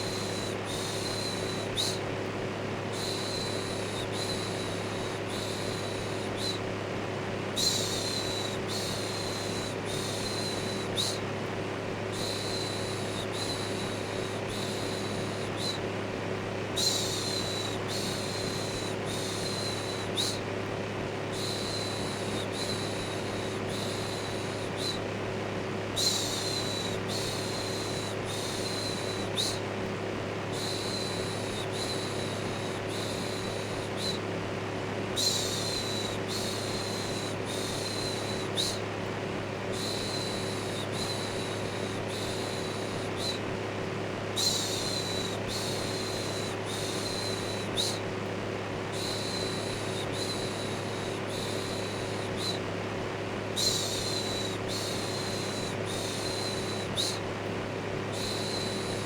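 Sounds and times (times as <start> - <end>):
electric fan motor hum: 0.0 - 59.0.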